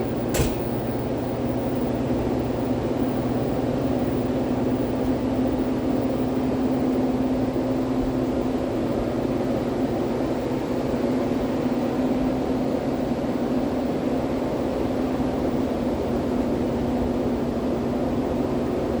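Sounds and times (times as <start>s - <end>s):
machinery and ventilation drone: 0.0s - 19.0s.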